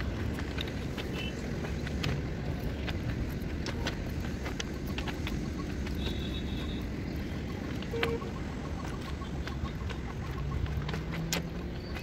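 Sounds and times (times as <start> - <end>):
footsteps crunching on ballast: 0.0 - 12.0.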